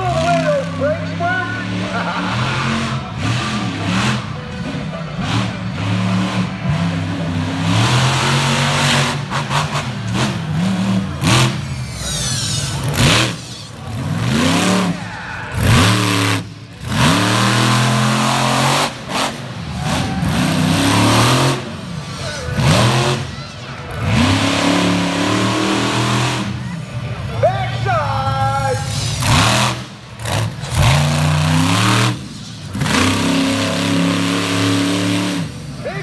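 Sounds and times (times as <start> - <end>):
truck engine revving hard: 0.0 - 27.3, 28.1 - 36.0.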